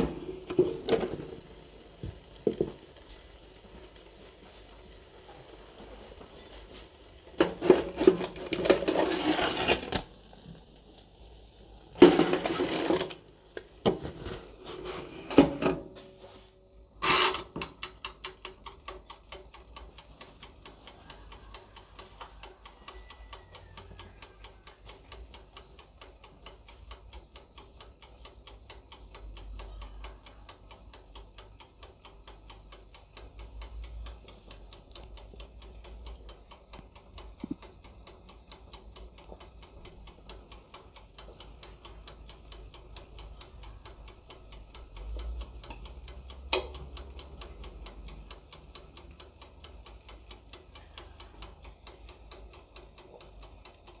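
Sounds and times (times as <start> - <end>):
mechanical timer ticking: 0.0 - 54.0.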